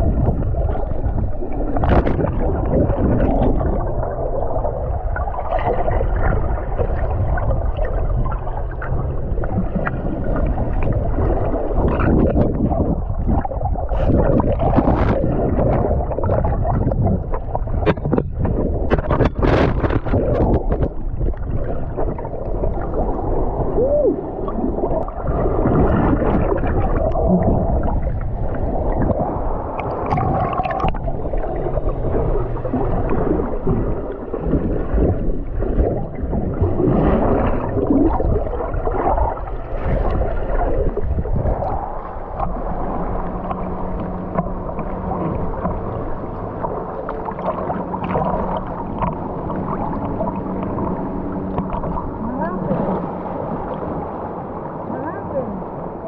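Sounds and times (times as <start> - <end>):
low steady hum: 0.0 - 56.0
water sloshing and gurgling: 0.0 - 56.0.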